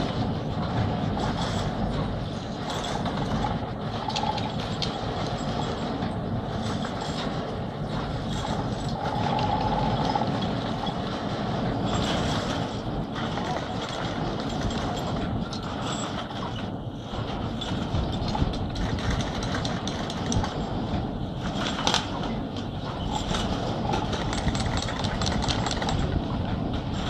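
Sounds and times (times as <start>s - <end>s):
chairlift mechanical rumble: 0.0s - 27.0s.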